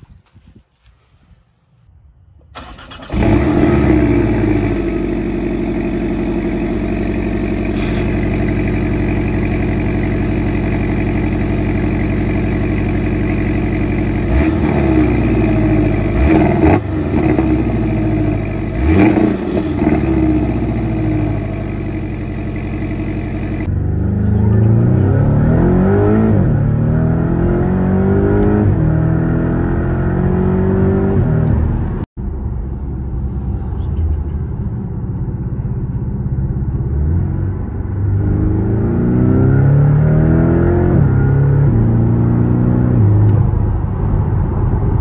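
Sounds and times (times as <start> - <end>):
car engine starting and idling: 2.3 - 45.0.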